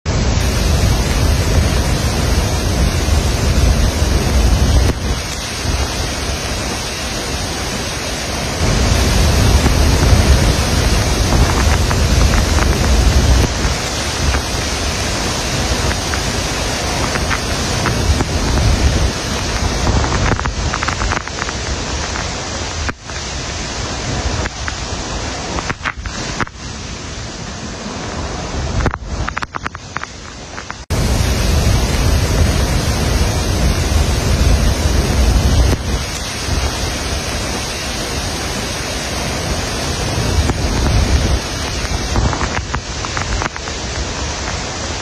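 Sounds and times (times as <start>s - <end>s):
roar of floodwater over waterfall: 0.1s - 45.0s.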